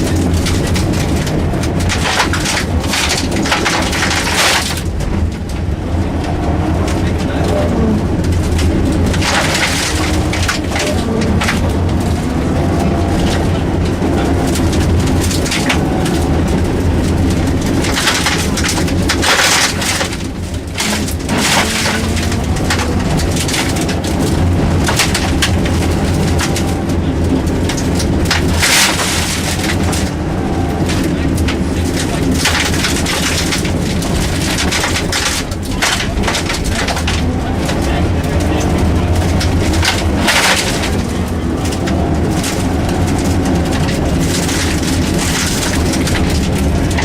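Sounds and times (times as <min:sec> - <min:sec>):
rally car engine revving: 0:00.0 - 0:47.0
road and stone noise: 0:00.0 - 0:47.0.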